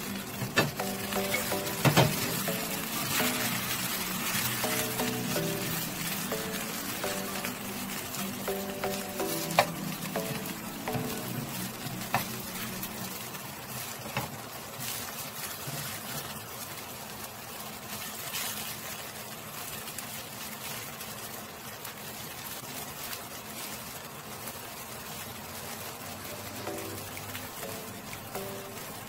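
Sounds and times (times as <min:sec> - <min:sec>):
pancakes sizzling in oil: 0:00.0 - 0:29.0.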